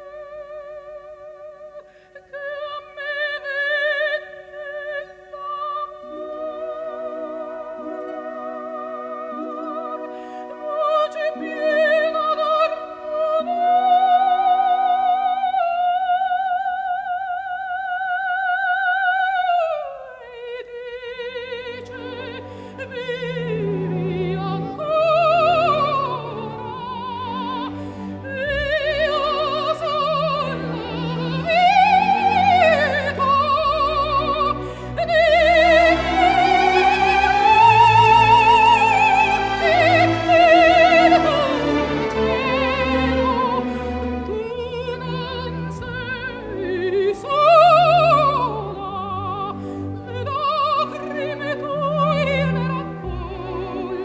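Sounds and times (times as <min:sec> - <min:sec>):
opera singer with vibrato: 0:00.0 - 0:54.0
orchestra playing: 0:03.2 - 0:15.0, 0:21.2 - 0:54.0.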